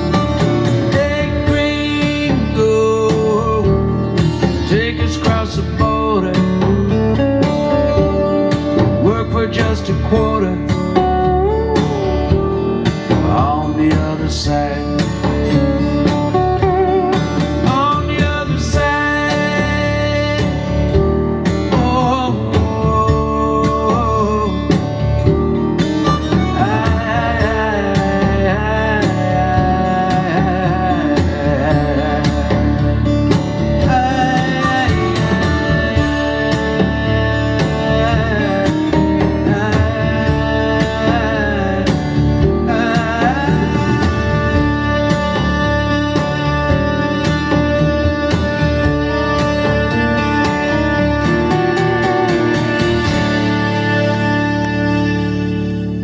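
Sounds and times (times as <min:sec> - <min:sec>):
song with guitar and drums: 0:00.0 - 0:56.0.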